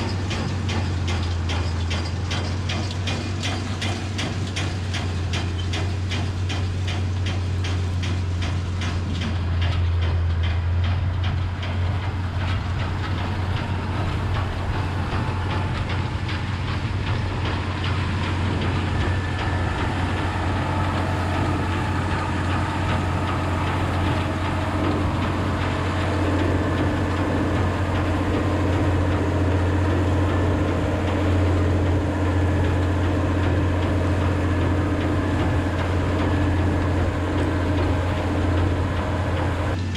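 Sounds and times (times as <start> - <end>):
rapid rhythmic baler clatter: 0.0 - 39.9
tractor diesel engine running: 0.0 - 39.9.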